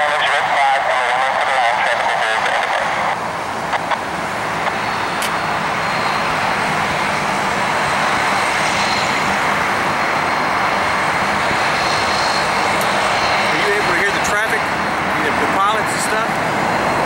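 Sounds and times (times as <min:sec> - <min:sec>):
jet engine rushing: 0:00.0 - 0:17.0
thin high engine whine: 0:00.0 - 0:17.0.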